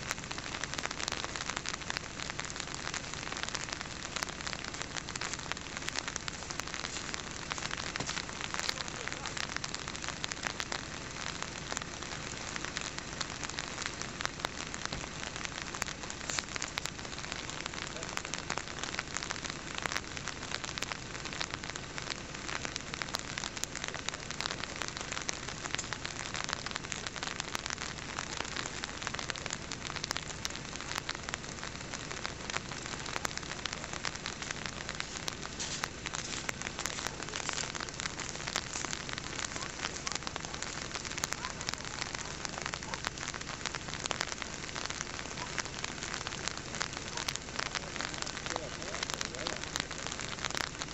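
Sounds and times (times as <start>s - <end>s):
dense patter of rain: 0.0s - 50.9s
small crackling clicks: 0.0s - 50.9s.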